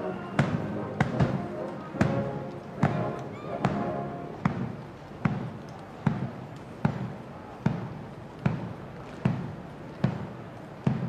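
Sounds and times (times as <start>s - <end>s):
muffled drums slow march beat: 0.0s - 11.0s.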